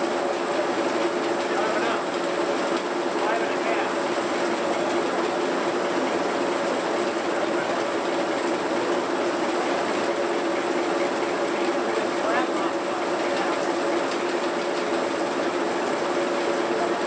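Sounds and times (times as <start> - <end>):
sawmill engine running steadily: 0.0 - 17.0.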